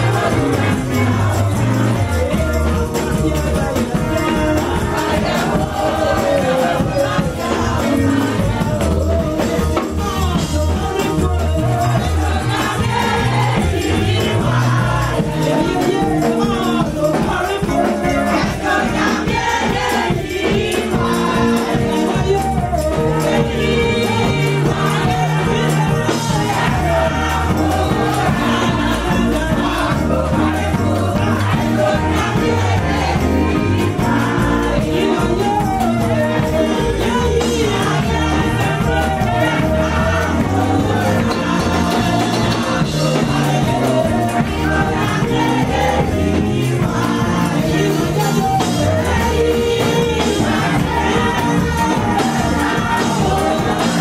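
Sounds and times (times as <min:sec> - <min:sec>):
shaken percussion: 0:00.0 - 0:54.0
voices singing gospel: 0:00.0 - 0:54.0.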